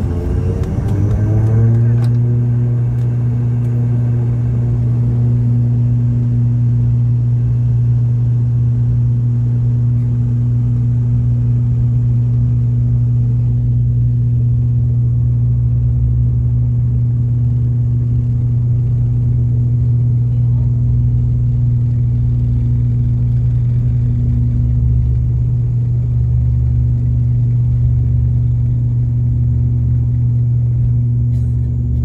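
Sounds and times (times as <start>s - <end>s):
engine and runway rumble: 0.0s - 32.0s
propeller deep hum: 0.0s - 32.0s.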